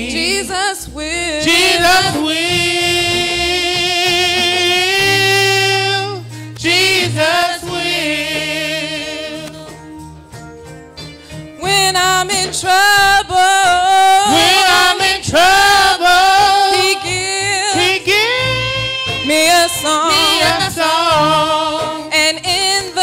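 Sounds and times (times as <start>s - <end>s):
woman singing: 0.0s - 9.8s, 11.6s - 23.0s
bass guitar: 0.0s - 23.0s
keyboard: 0.0s - 23.0s.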